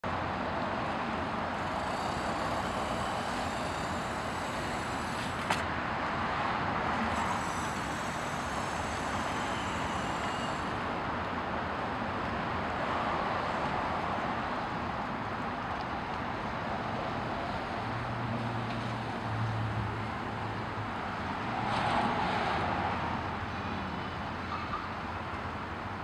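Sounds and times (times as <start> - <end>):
traffic noise: 0.0 - 26.0.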